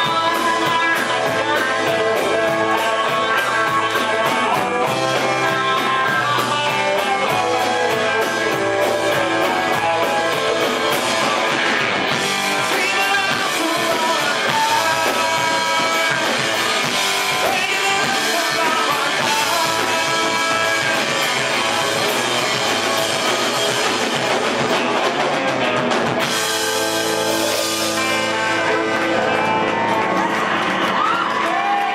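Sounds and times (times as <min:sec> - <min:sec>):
drum kit: 0:00.0 - 0:31.9
electric guitar: 0:00.0 - 0:31.9
live rock band playing: 0:00.0 - 0:31.9.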